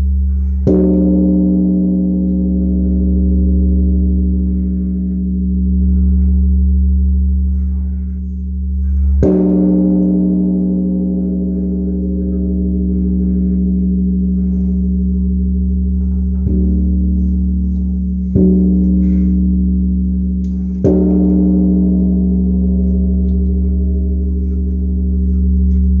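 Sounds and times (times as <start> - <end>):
large temple bell ringing: 0.0 - 26.0.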